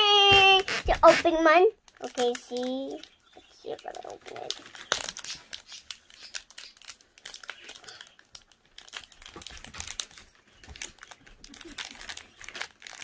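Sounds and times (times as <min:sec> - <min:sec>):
foil wrapper crinkling: 0:00.4 - 0:13.0.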